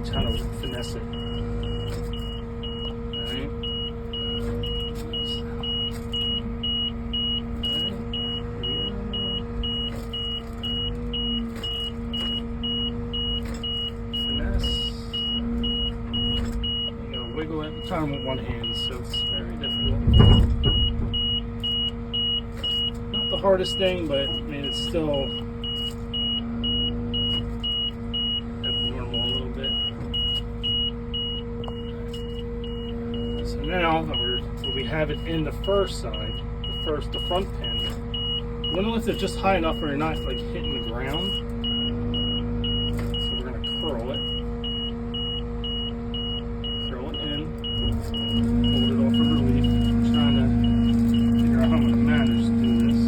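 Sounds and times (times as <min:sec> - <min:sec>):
excavator engine and hydraulic hum: 0:00.0 - 0:53.0
high-pitched warning beeper: 0:00.0 - 0:53.0.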